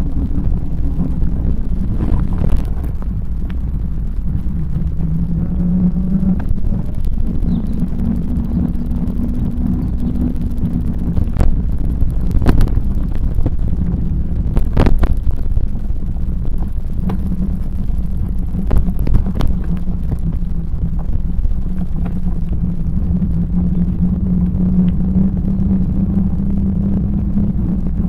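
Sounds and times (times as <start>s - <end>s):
bicycle tyres rumbling on path: 0.0s - 28.0s
bike knocking and rattling over bumps: 0.0s - 28.0s
wind on microphone: 0.0s - 28.0s.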